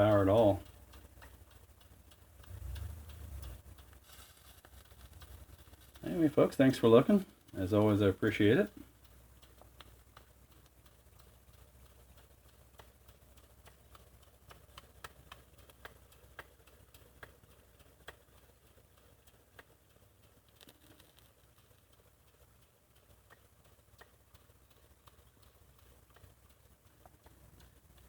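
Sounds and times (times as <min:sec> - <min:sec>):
low steady hum: 0:00.0 - 0:28.0
steam engine clicks and ticks: 0:00.0 - 0:28.0.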